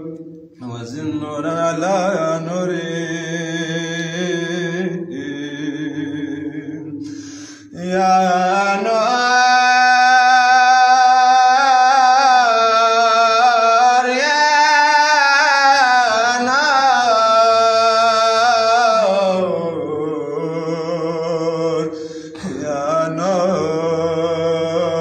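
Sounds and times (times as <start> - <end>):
man chanting: 0.0 - 25.0.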